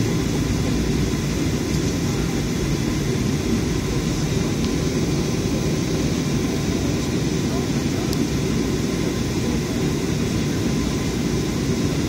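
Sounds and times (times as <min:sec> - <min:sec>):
airplane cabin rumble on runway: 0:00.0 - 0:12.0.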